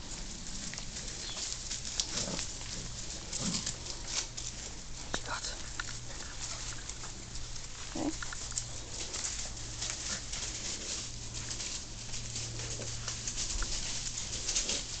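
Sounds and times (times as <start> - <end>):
puppies rustling in long grass: 0.0 - 15.0.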